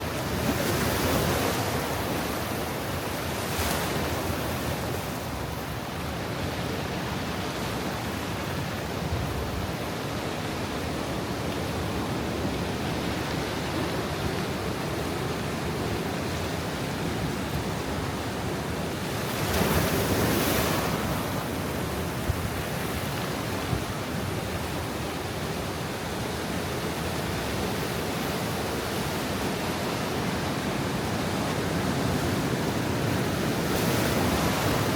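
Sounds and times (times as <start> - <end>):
surf washing against rocks: 0.0 - 34.9.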